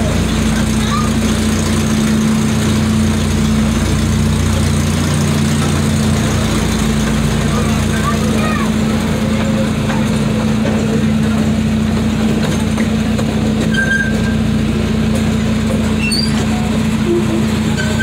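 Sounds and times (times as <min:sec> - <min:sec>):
miniature train engine humming: 0:00.0 - 0:18.0.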